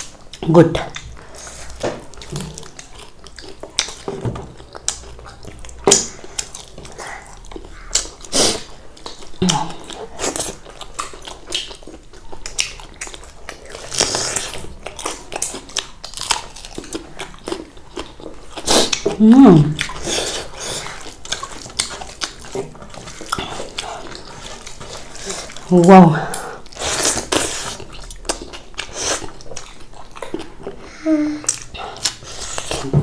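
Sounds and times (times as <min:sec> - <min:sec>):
person chewing food: 0:00.0 - 0:33.0.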